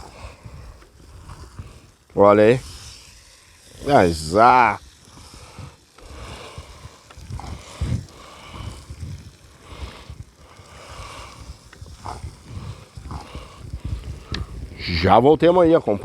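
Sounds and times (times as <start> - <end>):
food sizzling and crackling: 0.0 - 15.2.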